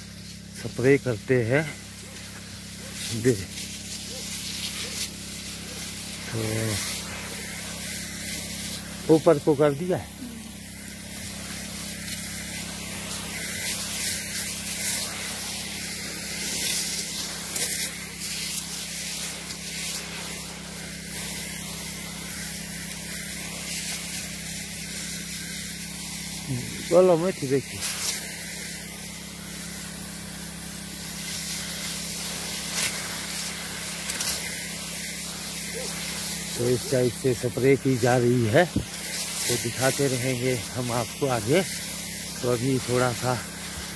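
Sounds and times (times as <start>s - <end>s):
spray gun hissing: 0.0s - 43.9s
steady low hum: 0.0s - 43.9s.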